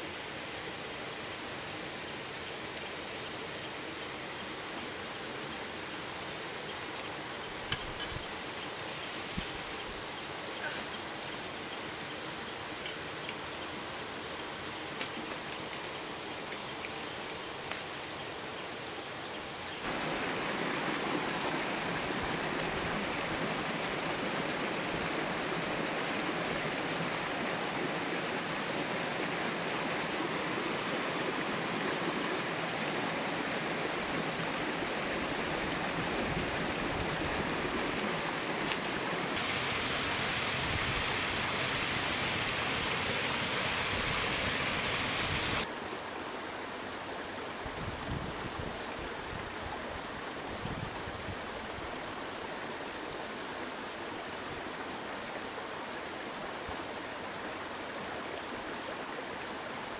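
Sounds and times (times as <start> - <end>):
outdoor hiss: 0.0 - 59.9
stream water rushing: 0.0 - 59.9.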